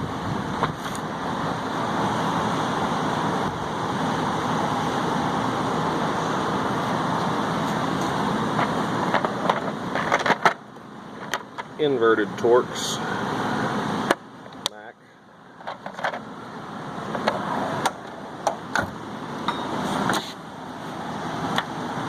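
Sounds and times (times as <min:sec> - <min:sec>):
steady rushing fan noise: 0:00.0 - 0:22.0.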